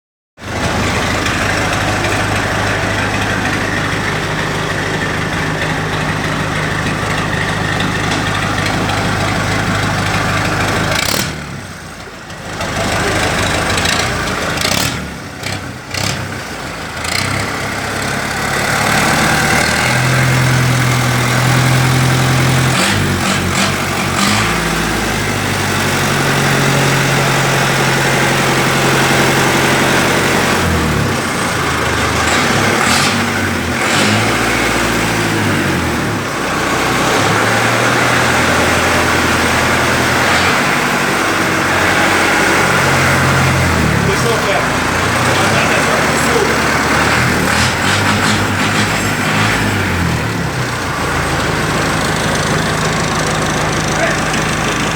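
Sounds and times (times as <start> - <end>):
vehicle engine running: 0.4 - 54.9.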